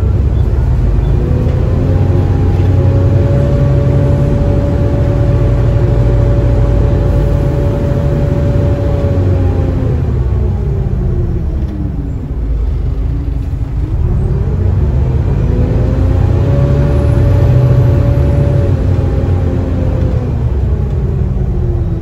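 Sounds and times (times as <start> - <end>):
bus diesel engine: 0.0 - 22.0.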